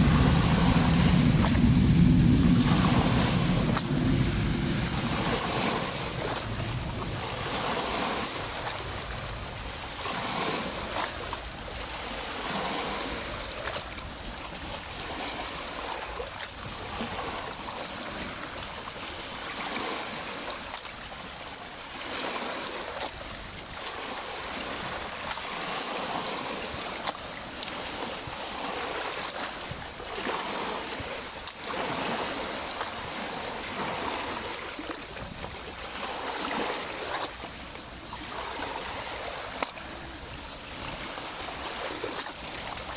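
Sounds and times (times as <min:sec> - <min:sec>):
lake waves lapping: 0:00.0 - 0:42.9.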